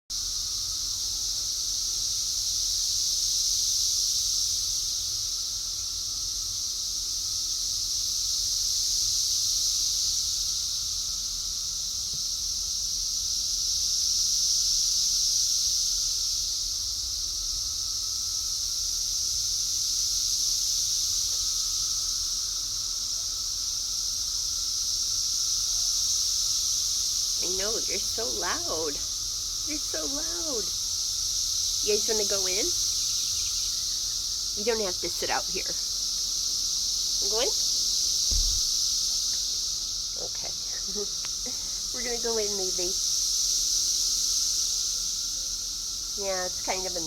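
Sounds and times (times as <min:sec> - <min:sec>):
cicadas droning: 0:00.1 - 0:47.0.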